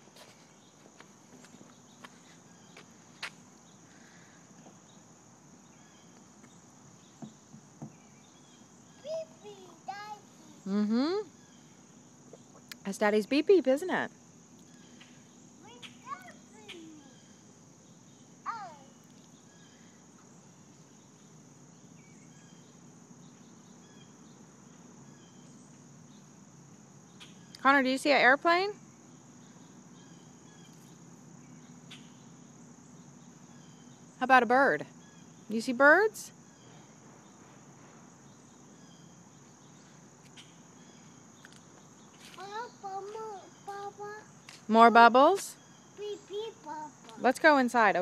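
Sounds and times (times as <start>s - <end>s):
high-pitched insect trilling: 0.1s - 48.0s.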